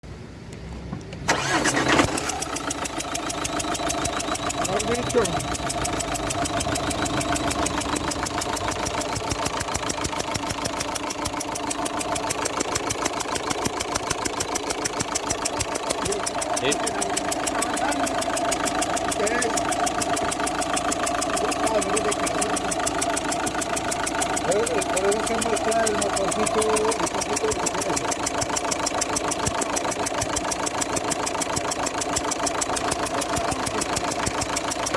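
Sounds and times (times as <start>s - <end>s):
diesel engine idling with ticking: 1.3s - 34.9s.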